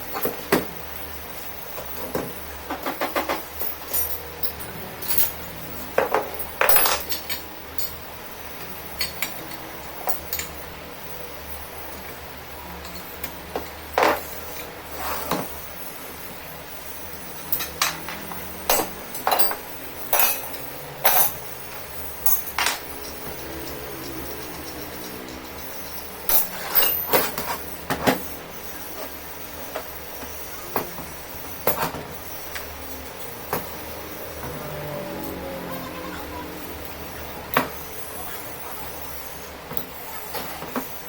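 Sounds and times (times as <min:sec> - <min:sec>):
steady low hum: 0:00.0 - 0:40.2
metal tools clinking: 0:01.8 - 0:41.0.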